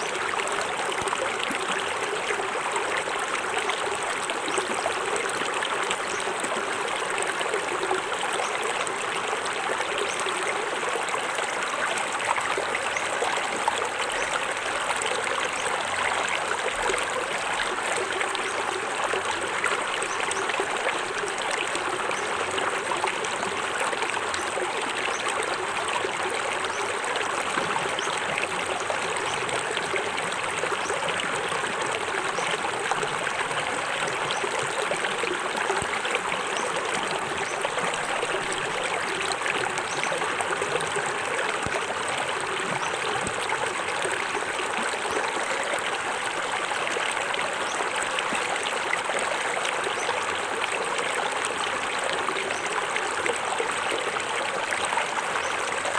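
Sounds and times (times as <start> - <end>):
water running over rocks: 0.0 - 55.9.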